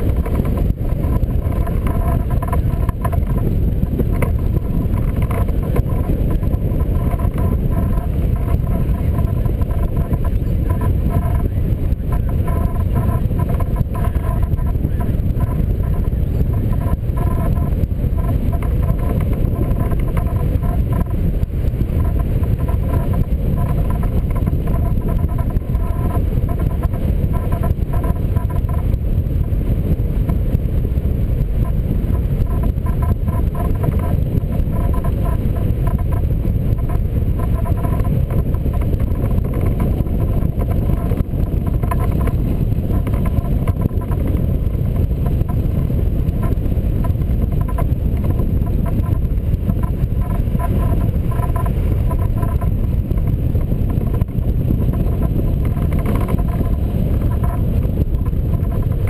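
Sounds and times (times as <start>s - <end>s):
faint pulsing tone: 0.0s - 59.0s
wind buffeting microphone: 0.0s - 59.0s.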